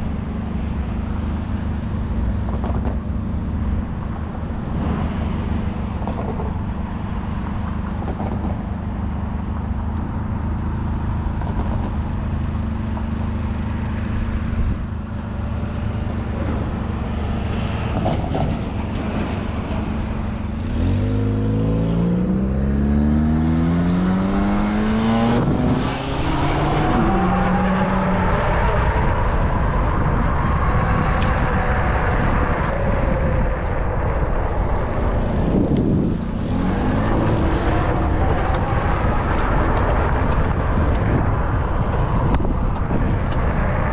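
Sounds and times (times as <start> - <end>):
road and wind noise: 0.0 - 43.9
vehicle engine accelerating: 0.0 - 43.9.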